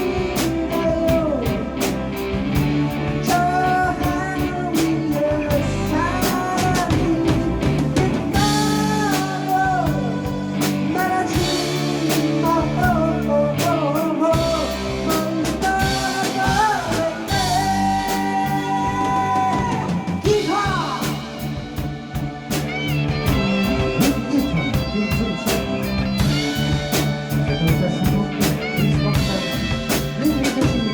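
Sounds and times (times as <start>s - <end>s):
pitch-bending melody line: 0.0s - 30.9s
rock band playing ballad: 0.0s - 30.9s.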